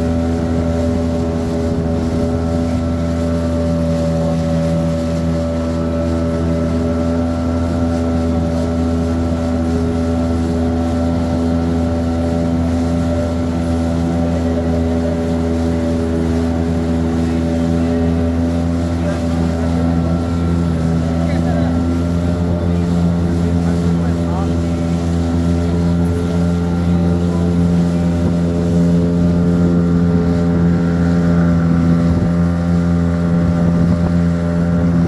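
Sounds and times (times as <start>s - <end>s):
outboard motor running: 0.0s - 35.0s
water splashing along hull: 0.0s - 35.0s.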